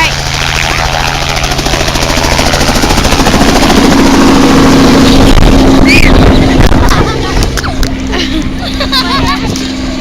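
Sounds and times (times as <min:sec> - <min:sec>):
helicopter rotor beating: 0:00.0 - 0:10.0
steady engine hum: 0:00.0 - 0:10.0.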